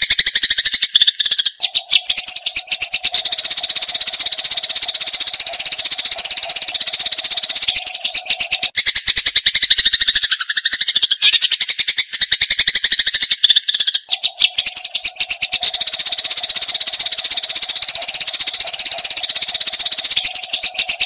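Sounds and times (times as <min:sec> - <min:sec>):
sparrows chattering: 0:00.0 - 0:21.0.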